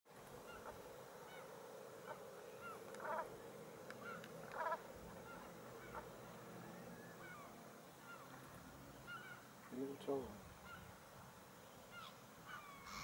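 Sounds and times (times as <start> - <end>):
birds calling: 0.2 - 13.0.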